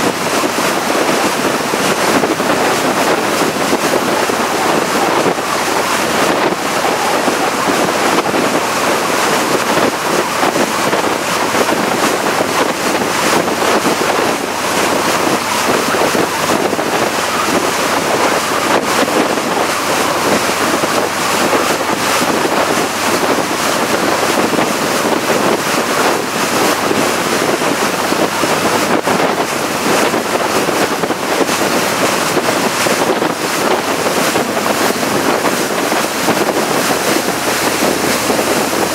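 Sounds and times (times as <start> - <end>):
water noise from boat: 0.0 - 38.9
wind buffeting microphone: 0.0 - 38.9.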